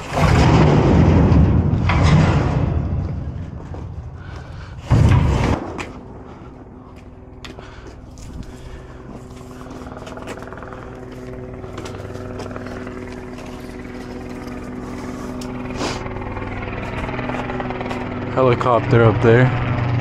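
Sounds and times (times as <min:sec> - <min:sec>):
helicopter flying overhead: 0:02.6 - 0:20.0.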